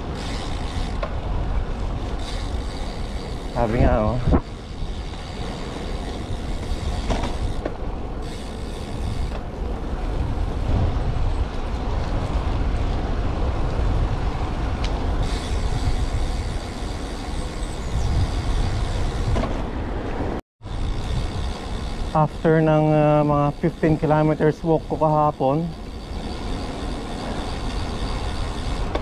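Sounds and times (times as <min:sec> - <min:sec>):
wind buffeting the microphone: 0:00.0 - 0:29.0.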